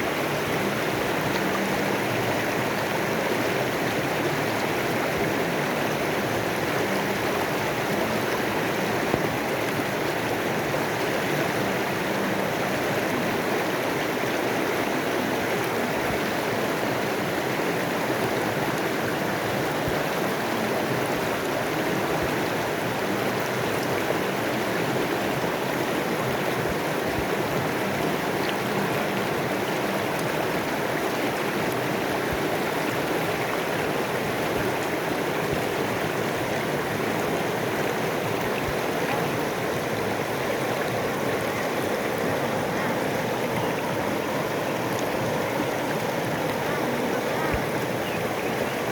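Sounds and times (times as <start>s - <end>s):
river flowing: 0.0s - 48.9s.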